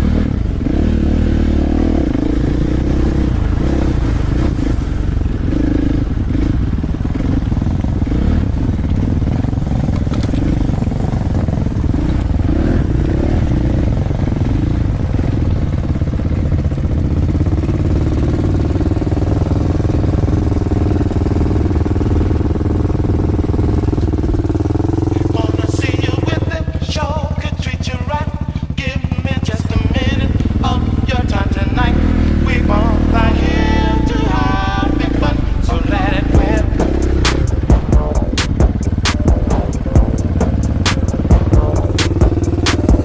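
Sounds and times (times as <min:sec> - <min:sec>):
dirt bike engine running: 0:00.0 - 0:43.0.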